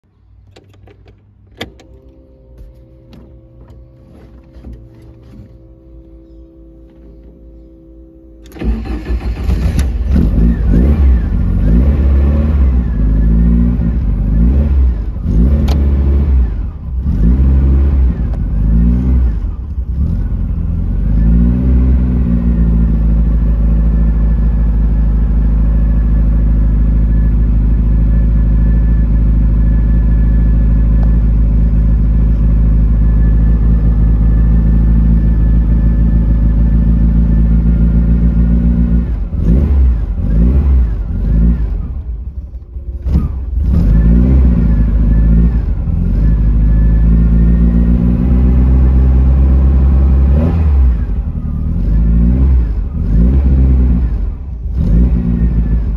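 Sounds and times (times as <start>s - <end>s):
car engine revving and idling: 8.4s - 55.9s.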